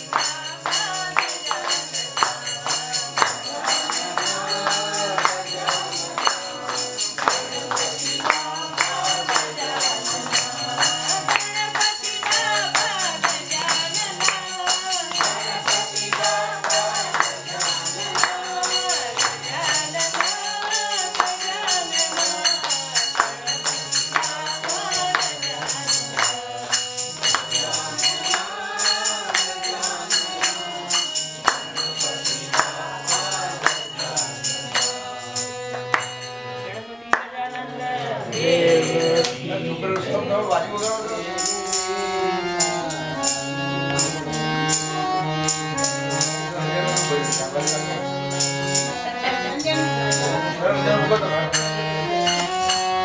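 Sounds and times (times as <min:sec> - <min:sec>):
hand-clapping: 0:00.0 - 0:37.3, 0:41.4 - 0:49.0, 0:51.5 - 0:53.0
group singing devotional song: 0:00.0 - 0:53.0
harmonium: 0:00.0 - 0:53.0.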